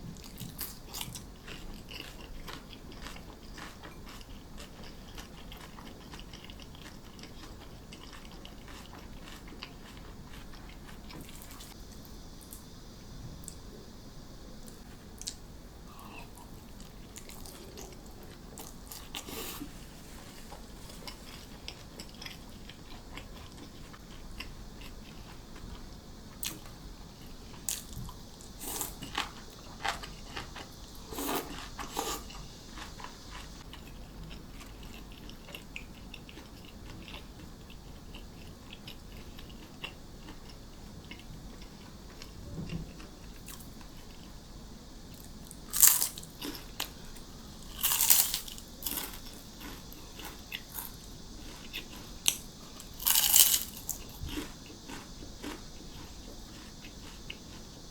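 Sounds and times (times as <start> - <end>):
person chewing crunchy food: 0.2 - 12.8, 14.7 - 25.8, 26.4 - 44.4, 45.1 - 57.9.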